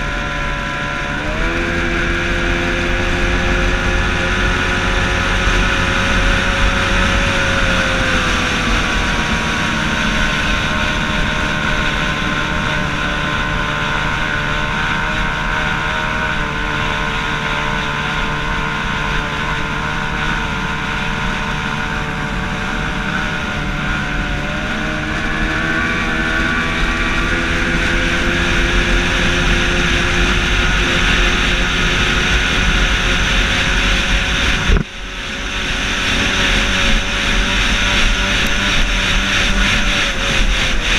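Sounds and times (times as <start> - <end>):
racing outboard engine running: 0.0 - 40.9.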